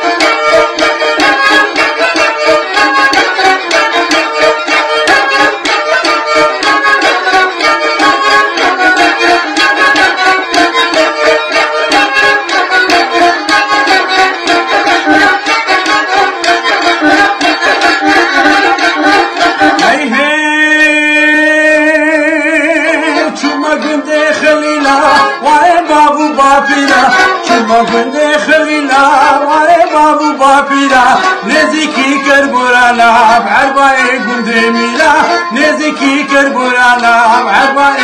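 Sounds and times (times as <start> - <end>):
bowed fiddle playing: 0.0 - 38.0
man singing: 0.0 - 38.0.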